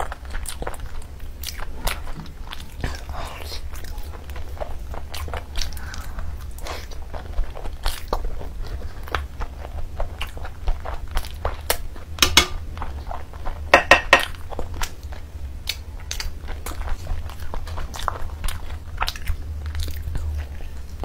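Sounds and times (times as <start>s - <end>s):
person chewing and biting food: 0.0s - 21.0s.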